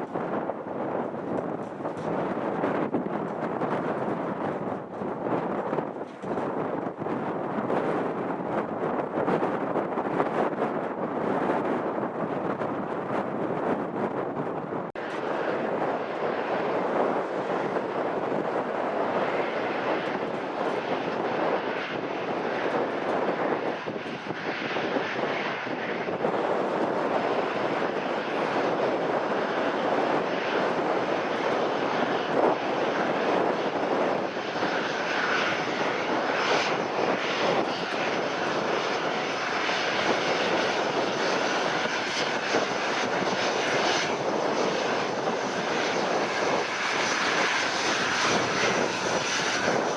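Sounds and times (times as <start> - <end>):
airliner engines rushing: 0.0 - 49.9.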